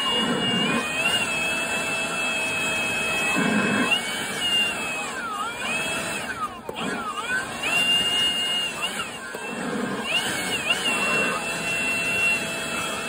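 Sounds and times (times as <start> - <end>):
leaf blower running: 0.0 - 13.0.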